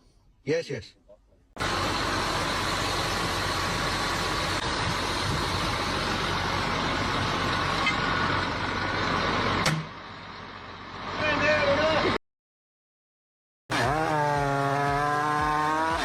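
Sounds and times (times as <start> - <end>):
loud machinery noise: 1.6 - 12.2, 13.7 - 16.0.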